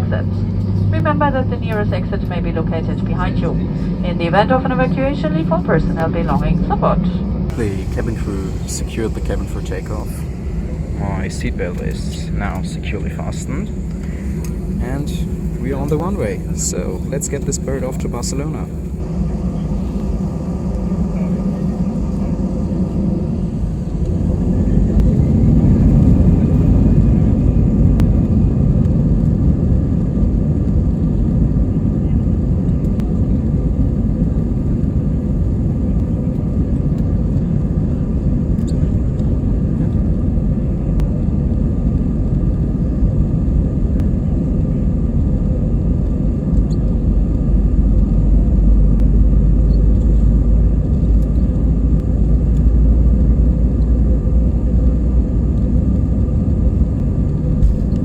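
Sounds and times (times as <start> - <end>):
jet engine whine: 0.0 - 58.0
jet engines rumbling: 0.0 - 58.0.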